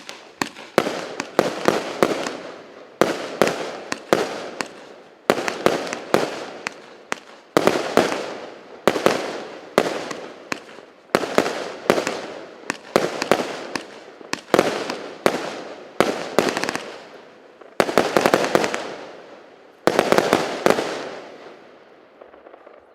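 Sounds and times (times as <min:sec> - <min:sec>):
fireworks bangs with crackle: 0:00.0 - 0:22.9.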